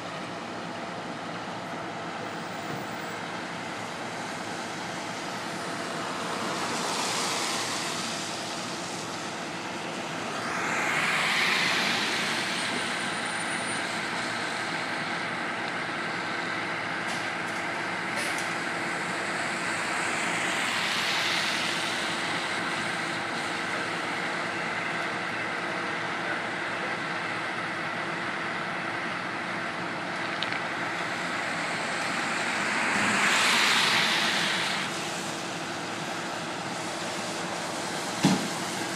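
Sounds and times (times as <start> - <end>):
steady engine hum: 0.0 - 38.9
tyres hissing on wet road: 0.0 - 38.9.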